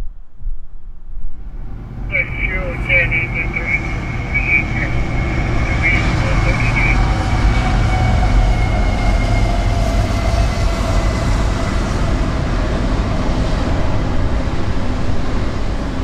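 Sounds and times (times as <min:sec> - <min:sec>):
freight train rumbling over rails: 0:01.4 - 0:16.0.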